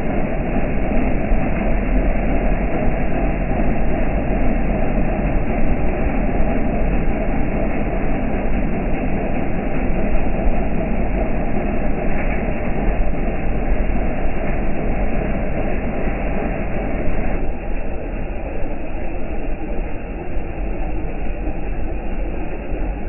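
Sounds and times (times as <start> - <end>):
rain falling steadily: 0.0 - 23.0.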